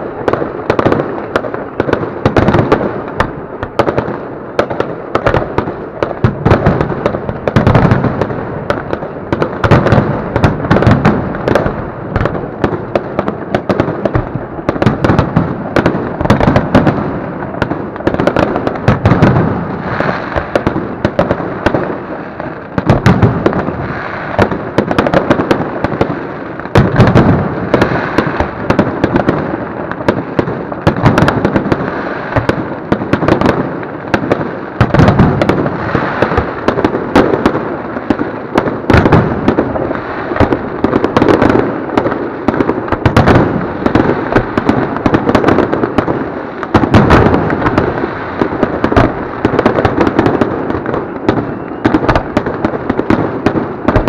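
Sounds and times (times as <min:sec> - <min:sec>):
fireworks bursting and crackling: 0:00.0 - 0:54.0
heavy fireworks booms: 0:00.0 - 0:54.0.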